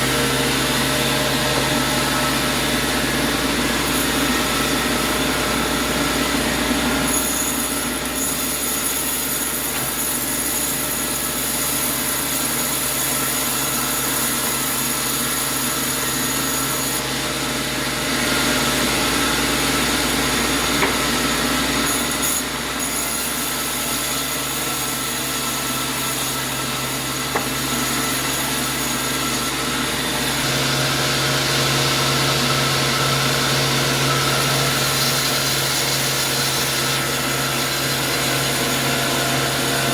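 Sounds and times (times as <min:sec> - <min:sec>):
saw cutting through wood: 0:00.0 - 0:39.9.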